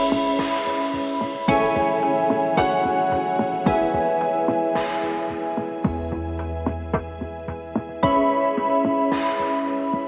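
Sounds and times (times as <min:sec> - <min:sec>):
calm synthesizer chords: 0:00.0 - 0:10.0.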